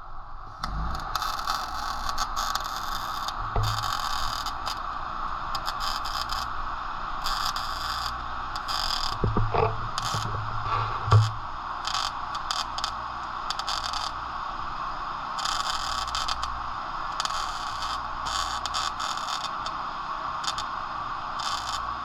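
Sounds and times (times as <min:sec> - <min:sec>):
welding arc crackling and hissing: 0:00.4 - 0:22.0.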